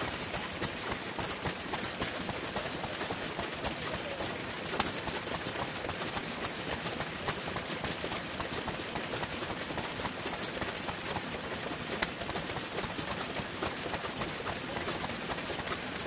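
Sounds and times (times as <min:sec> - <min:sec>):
stationary engines chuffing: 0:00.0 - 0:16.0.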